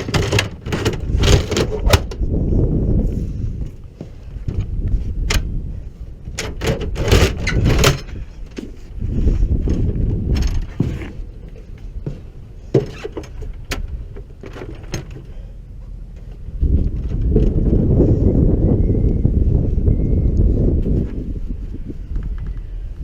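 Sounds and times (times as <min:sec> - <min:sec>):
low rumble: 0:00.9 - 0:12.7, 0:13.4 - 0:23.0.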